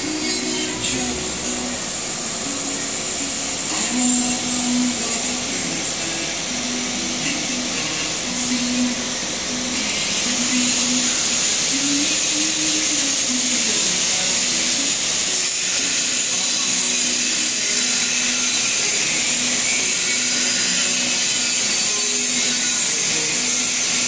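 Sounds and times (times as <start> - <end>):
faint wavering hum: 0.0 - 24.0
machine hissing: 0.0 - 24.0.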